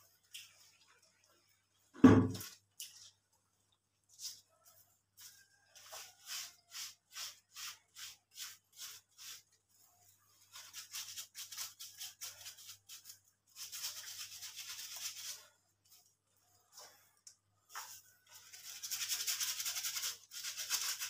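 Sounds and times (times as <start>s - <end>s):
brush scrubbing wet fur: 0.0s - 21.0s.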